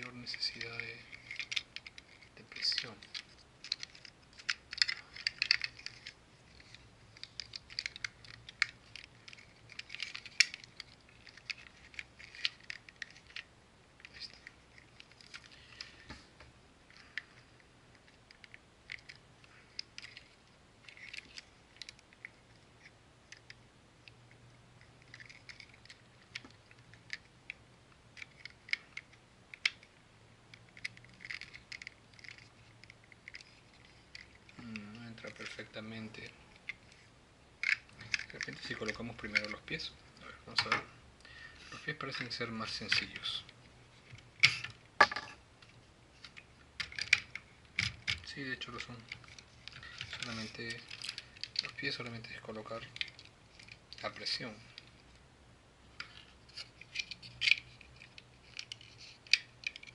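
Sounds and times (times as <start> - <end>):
plastic toy parts clicking: 0.1 - 16.0, 16.9 - 24.2, 24.8 - 27.6, 28.2 - 37.0, 37.6 - 39.8, 44.1 - 55.0, 55.9 - 59.9.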